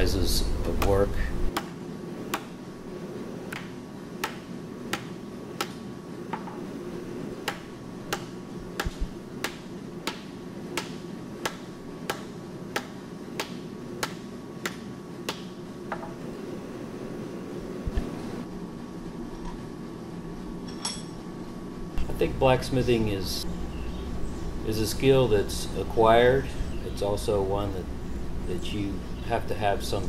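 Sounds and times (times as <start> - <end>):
shop machinery hum: 0.0 - 30.0.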